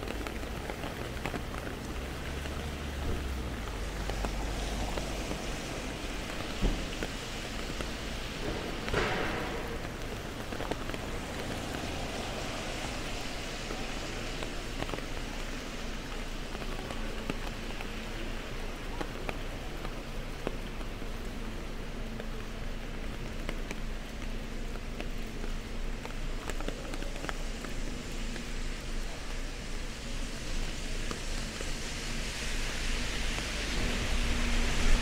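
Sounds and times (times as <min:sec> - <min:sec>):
rain on wet street: 0:00.0 - 0:35.0.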